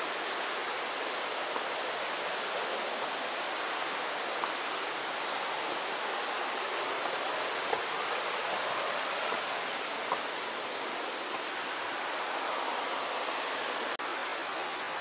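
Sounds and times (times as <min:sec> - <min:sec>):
flowing water rushing: 0:00.0 - 0:15.0
faint footsteps on path: 0:00.3 - 0:14.7.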